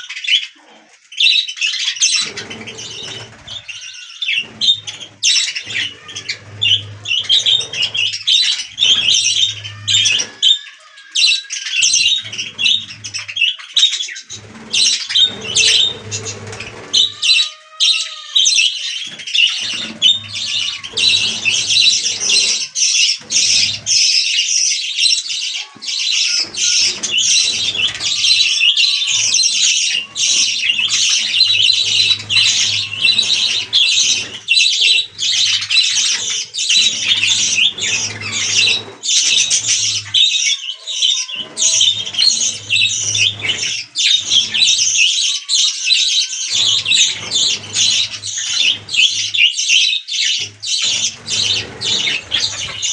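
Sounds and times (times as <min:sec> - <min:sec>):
budgerigars chattering: 0:00.0 - 0:10.6, 0:11.2 - 0:52.9.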